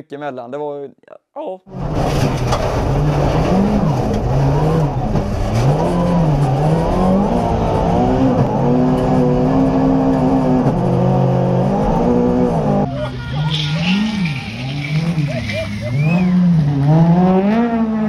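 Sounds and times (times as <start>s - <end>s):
rally car engine revving: 1.7s - 18.0s.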